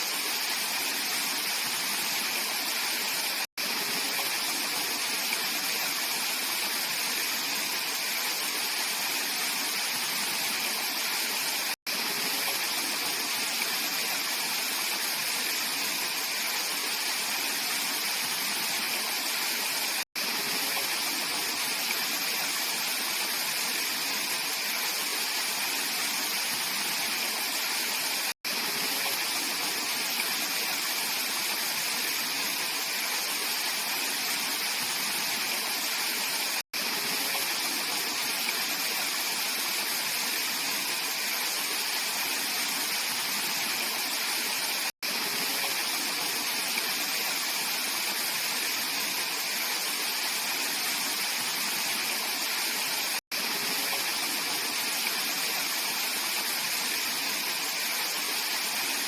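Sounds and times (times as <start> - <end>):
stream rushing water: 0.0 - 59.0.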